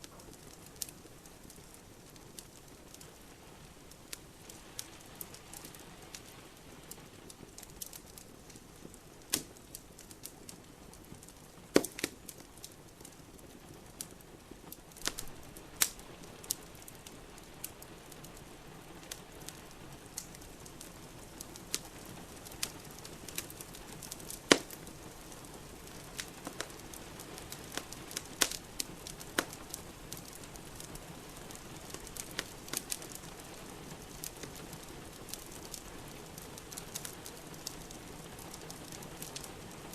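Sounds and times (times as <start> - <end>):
rain hissing: 0.0 - 39.9
wood fire crackling: 0.0 - 39.9
sharp pops of fire: 3.8 - 39.9.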